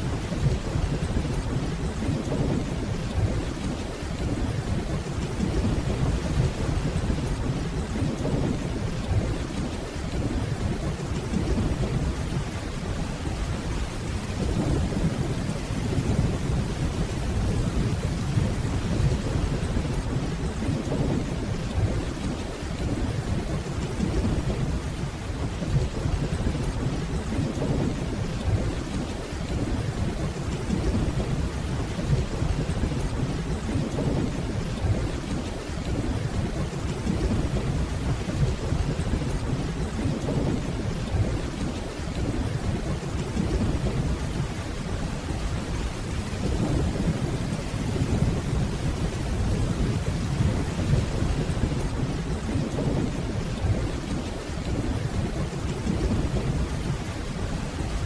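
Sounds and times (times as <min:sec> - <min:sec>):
distant rolling thunder: 0:00.0 - 0:58.0
steady rainfall: 0:00.0 - 0:58.0.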